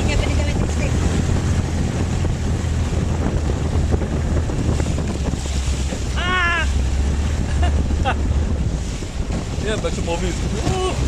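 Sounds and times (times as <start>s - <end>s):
boat engine drone: 0.0s - 11.0s
waves splashing: 0.0s - 11.0s
wind buffeting microphone: 0.0s - 11.0s.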